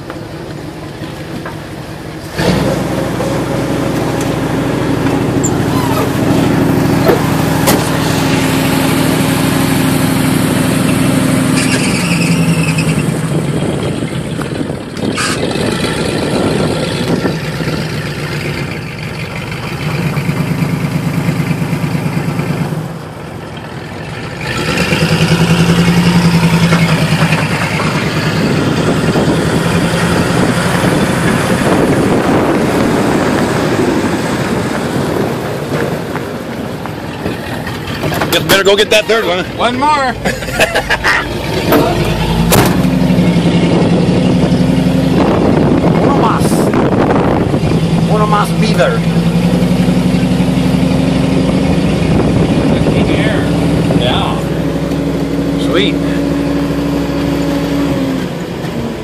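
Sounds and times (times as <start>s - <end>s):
truck engine running under load: 0.0s - 59.0s.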